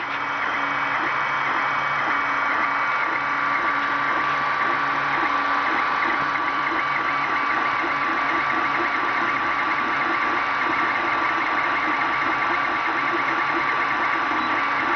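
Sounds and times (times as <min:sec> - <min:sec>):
cooling fans whirring: 0:00.0 - 0:14.9
stepper motors buzzing: 0:00.0 - 0:14.9.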